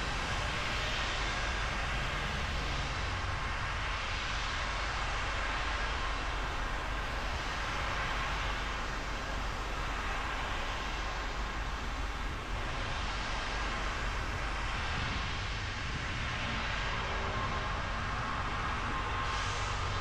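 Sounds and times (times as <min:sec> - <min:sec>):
rain: 0:00.0 - 0:20.0
tyre hiss on wet road: 0:00.0 - 0:20.0.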